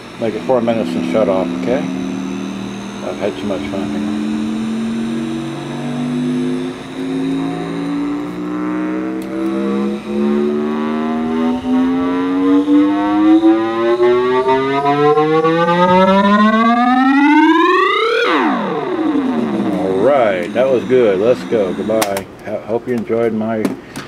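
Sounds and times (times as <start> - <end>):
electronic tone rising in pitch: 0.0 - 22.2.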